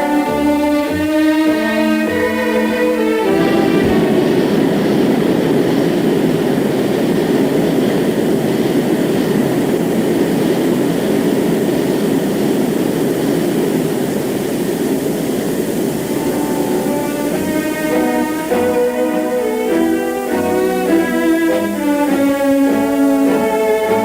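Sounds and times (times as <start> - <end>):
jet aircraft engine roar: 0.0 - 24.0.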